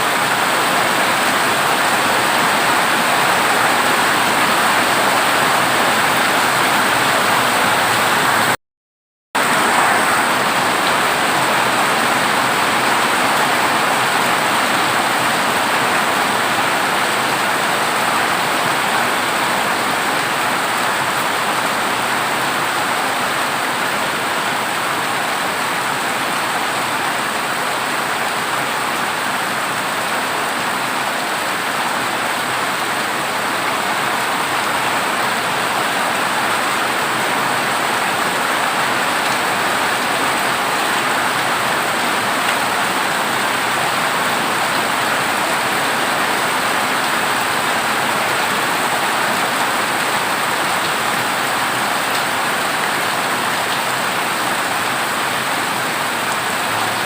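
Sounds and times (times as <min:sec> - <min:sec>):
heavy rain on a tin roof: 0:00.0 - 0:08.6, 0:09.4 - 0:57.0.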